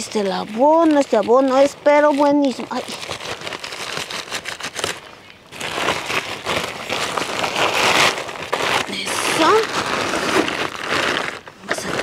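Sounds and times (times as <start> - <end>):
plastic sack rustling and crackling: 0.0 - 12.0.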